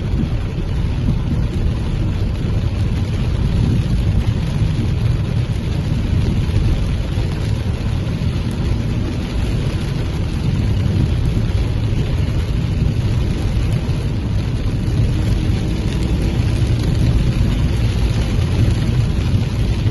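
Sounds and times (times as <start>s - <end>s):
heavy rain falling: 0.0s - 19.9s
strong low rumble: 0.0s - 19.9s.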